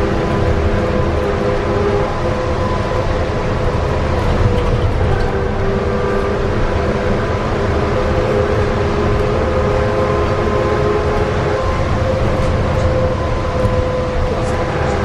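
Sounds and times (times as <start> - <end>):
tyres rumbling on road: 0.0 - 15.0.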